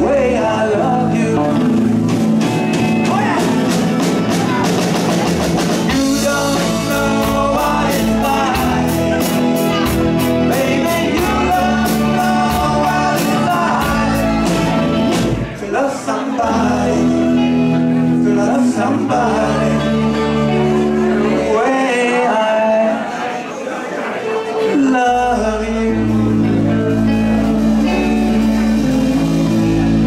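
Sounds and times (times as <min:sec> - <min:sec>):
electric bass: 0:00.0 - 0:15.7, 0:16.4 - 0:21.8, 0:25.0 - 0:30.0
drums: 0:00.0 - 0:22.0, 0:25.1 - 0:30.0
electric guitar: 0:00.0 - 0:23.1, 0:24.2 - 0:30.0
keyboards: 0:00.0 - 0:30.0.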